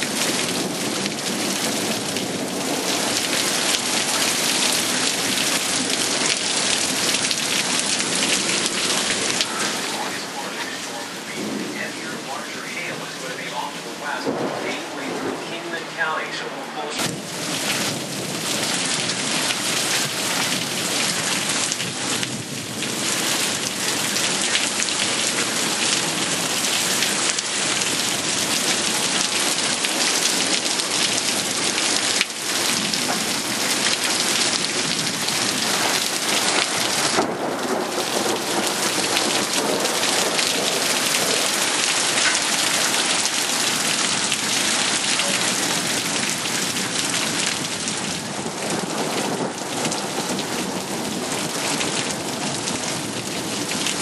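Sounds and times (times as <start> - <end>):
heavy rain downpour: 0.0 - 54.0.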